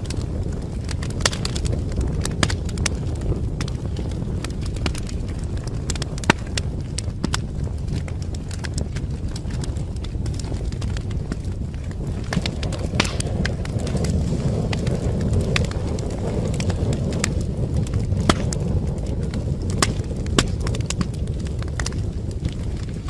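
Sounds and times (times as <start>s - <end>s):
fire crackling and popping: 0.0s - 23.0s
low rush of flame: 0.0s - 23.0s.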